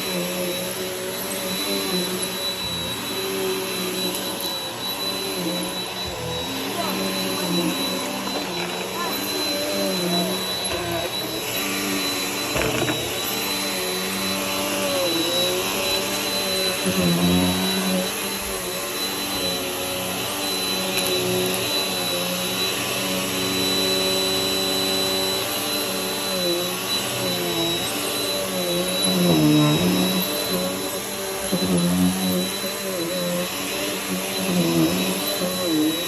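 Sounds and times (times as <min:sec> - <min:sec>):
vacuum cleaner running: 0:00.0 - 0:36.0.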